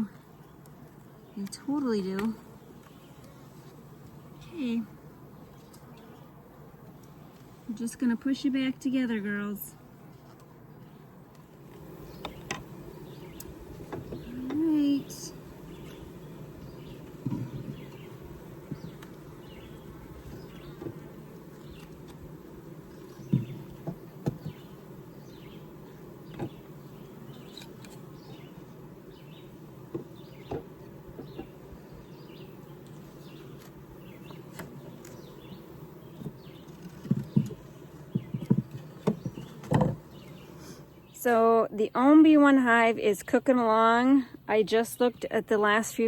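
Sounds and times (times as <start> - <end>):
honeybees buzzing: 0.0 - 46.0.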